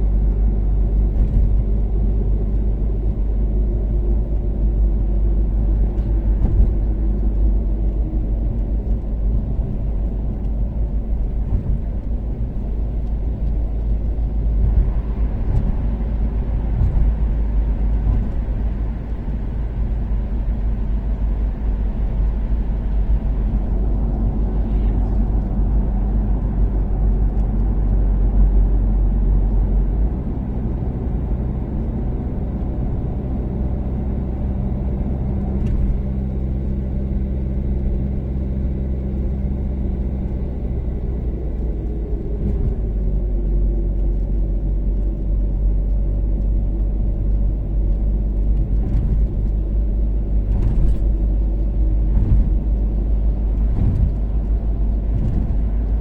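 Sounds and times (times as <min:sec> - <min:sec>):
car engine and tyre rumble cruising: 0:00.0 - 0:56.0.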